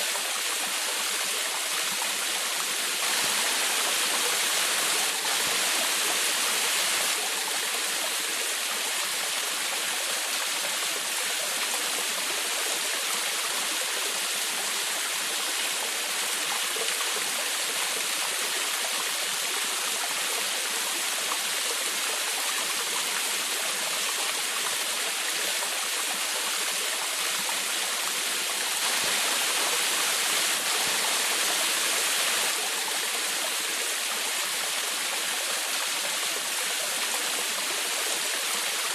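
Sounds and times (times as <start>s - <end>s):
small waterfall splashing: 0.0s - 38.9s.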